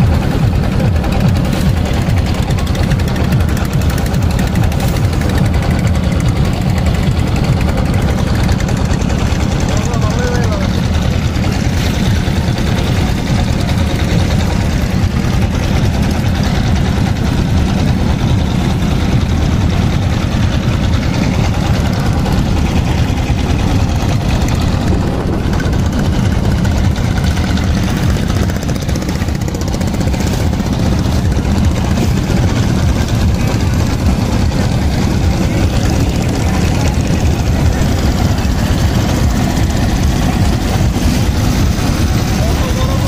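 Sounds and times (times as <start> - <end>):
motorboat engine running: 0.0 - 43.0.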